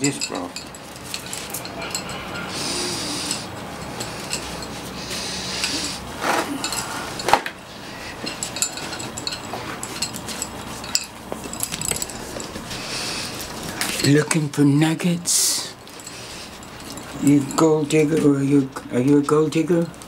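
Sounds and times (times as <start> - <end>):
bangles clinking: 0.0 - 14.5, 15.7 - 18.3.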